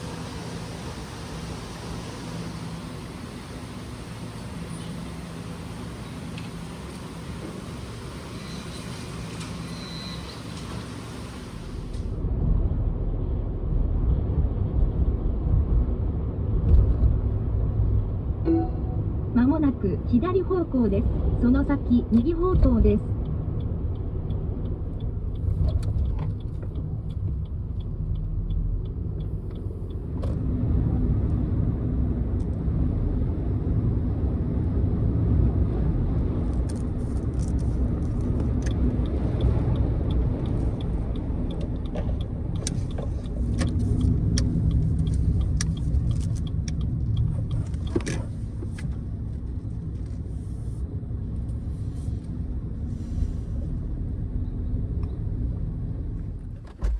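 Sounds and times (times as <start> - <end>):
road and engine rumble: 0.0 - 56.9.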